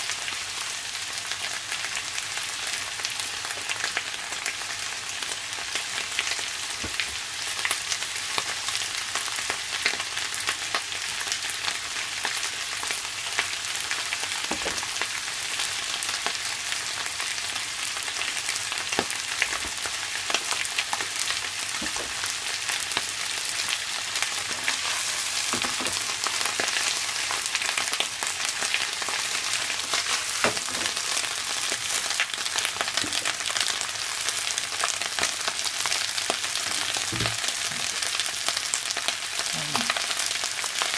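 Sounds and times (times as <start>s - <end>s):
cabbage sizzling in a pan: 0.0s - 40.9s.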